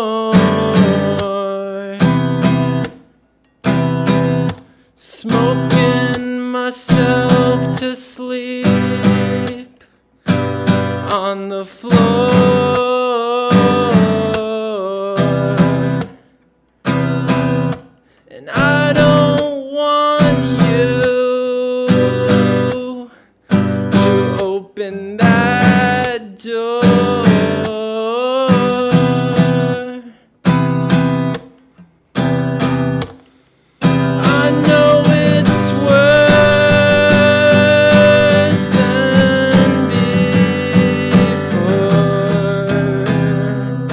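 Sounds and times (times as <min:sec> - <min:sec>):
man singing: 0:00.0 - 0:02.8, 0:05.0 - 0:09.9, 0:10.6 - 0:16.2, 0:17.3 - 0:30.2, 0:33.8 - 0:43.9
acoustic guitar strumming: 0:00.0 - 0:09.6, 0:10.2 - 0:43.9.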